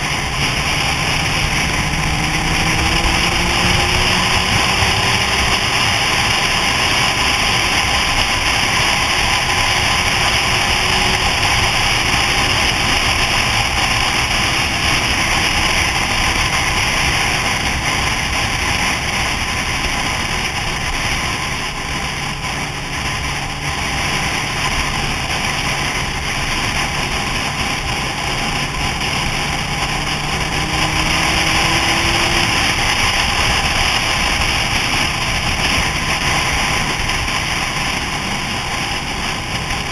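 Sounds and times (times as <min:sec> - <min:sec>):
faint motorcycle engine: 0:00.0 - 0:39.9.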